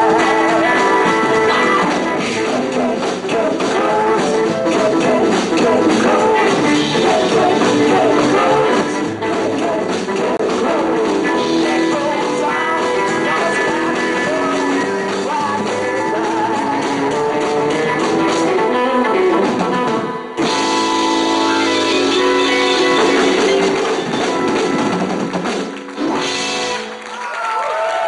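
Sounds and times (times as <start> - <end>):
rock band playing: 0.0 - 27.3.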